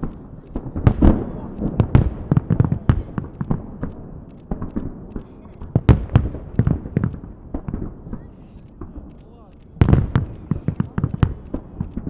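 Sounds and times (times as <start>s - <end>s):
firework bursts with rumbling tail: 0.0s - 12.0s.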